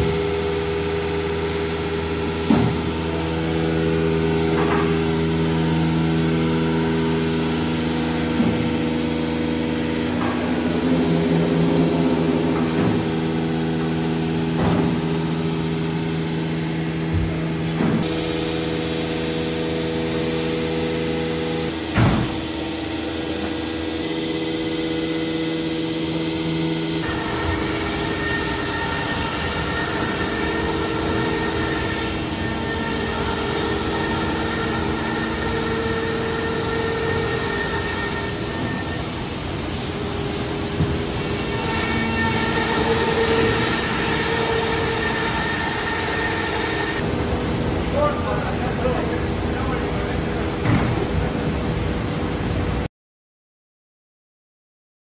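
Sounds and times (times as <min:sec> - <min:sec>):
cnc router humming: 0:00.0 - 0:52.9.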